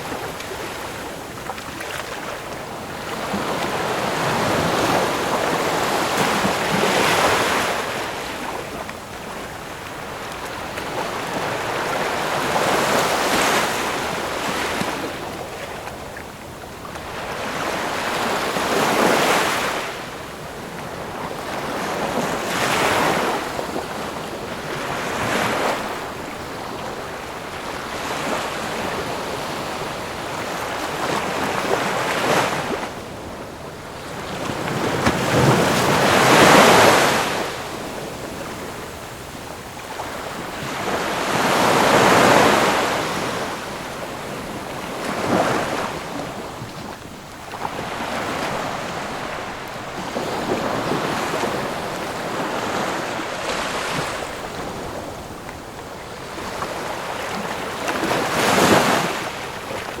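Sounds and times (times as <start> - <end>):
ocean waves breaking: 0.0 - 60.0.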